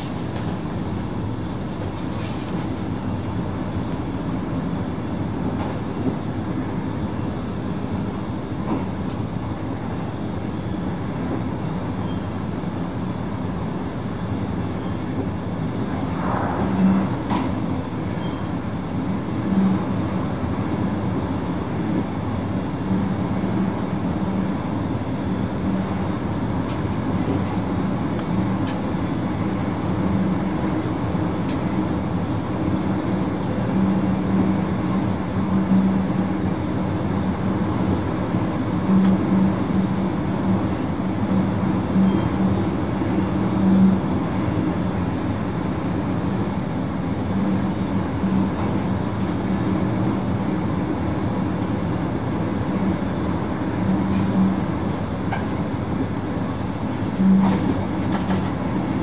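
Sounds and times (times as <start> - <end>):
train wheels rumbling on rails: 0.0 - 25.0, 25.6 - 59.0
traction equipment hum: 0.0 - 59.0.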